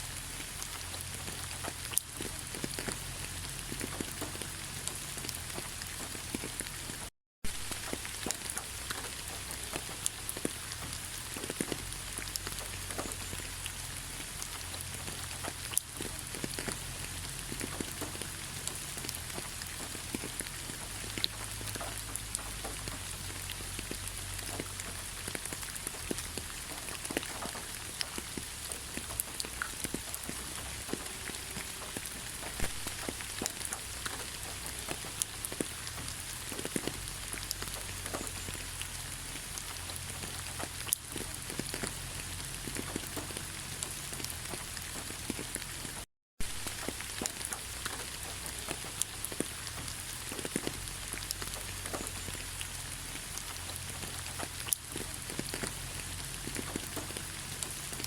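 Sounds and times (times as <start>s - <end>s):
raindrops striking close by: 0.0s - 58.0s
steady rain hiss: 0.0s - 58.0s.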